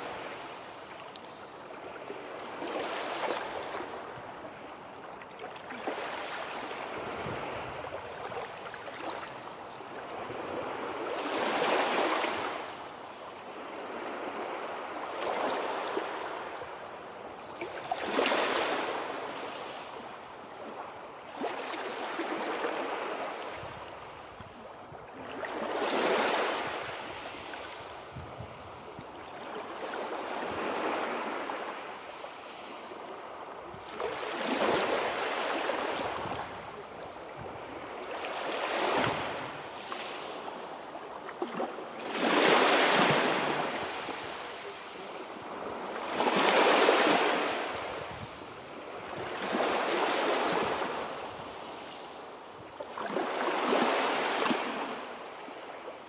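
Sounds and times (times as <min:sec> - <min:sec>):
sea waves breaking on shore: 0:00.0 - 0:16.8, 0:17.6 - 0:24.3, 0:25.1 - 0:56.0.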